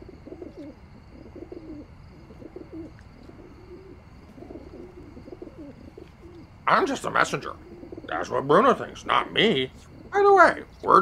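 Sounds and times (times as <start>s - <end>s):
birds cooing: 0.0s - 11.0s.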